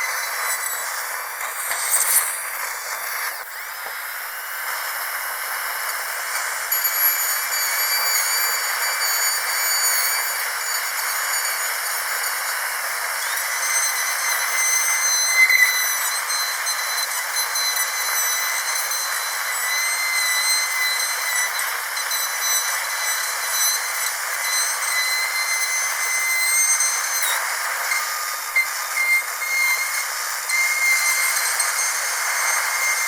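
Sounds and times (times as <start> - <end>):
dental drill whining: 0.0 - 33.0.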